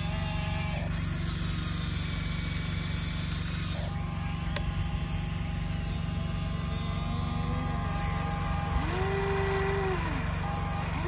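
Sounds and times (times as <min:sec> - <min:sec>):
high motor whine: 0:00.0 - 0:11.0
low mechanical hum: 0:00.0 - 0:11.0.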